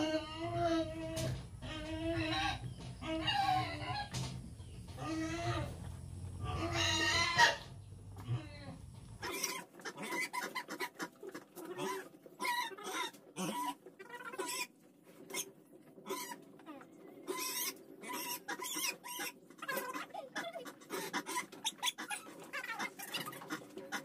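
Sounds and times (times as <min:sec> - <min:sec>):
squeaky farm animal calls: 0:00.0 - 0:24.0.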